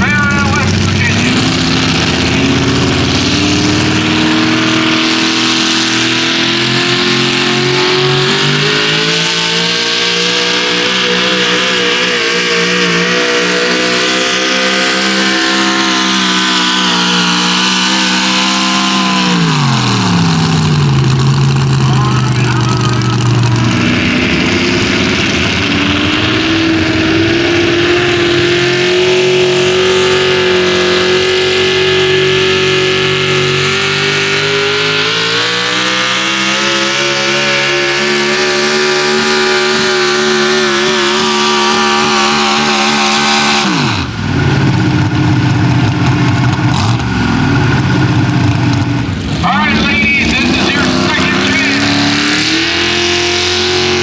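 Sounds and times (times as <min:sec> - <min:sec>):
truck engine revving high: 0:00.0 - 0:54.0.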